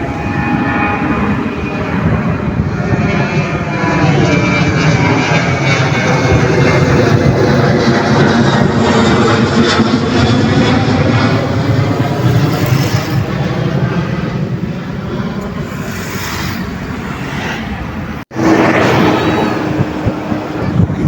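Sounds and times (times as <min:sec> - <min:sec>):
airliner engines passing: 0:00.0 - 0:21.0.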